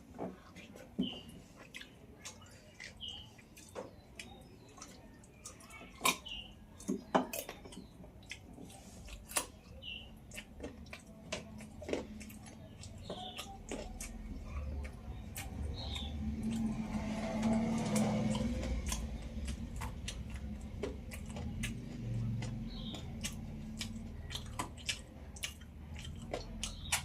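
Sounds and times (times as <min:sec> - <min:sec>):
person chewing and smacking lips: 0:00.0 - 0:27.0.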